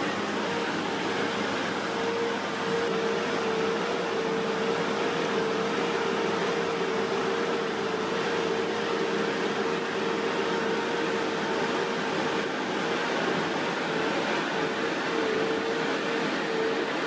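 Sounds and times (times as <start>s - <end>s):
machine drone with hum: 0.0s - 17.0s.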